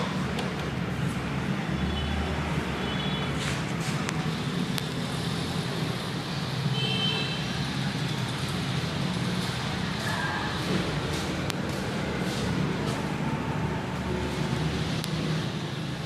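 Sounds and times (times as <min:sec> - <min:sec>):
scooter engine humming: 0:00.0 - 0:16.0.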